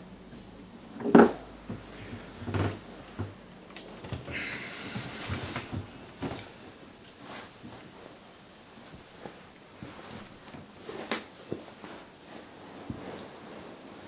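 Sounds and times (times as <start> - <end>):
duvet and clothing rustling: 0.0 - 14.0.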